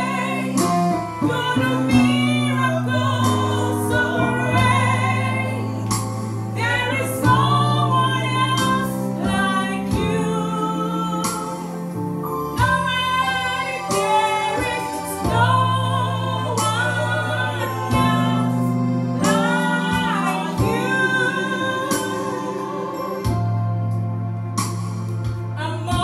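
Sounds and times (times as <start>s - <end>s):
women singing gospel song: 0.0s - 23.9s, 25.5s - 26.0s
electronic keyboard chords: 0.0s - 26.0s.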